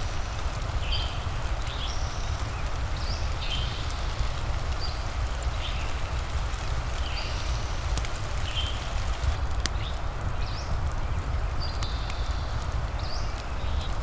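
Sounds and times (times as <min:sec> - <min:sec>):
fire crackling: 0:00.0 - 0:14.0
rain hiss: 0:00.0 - 0:14.0.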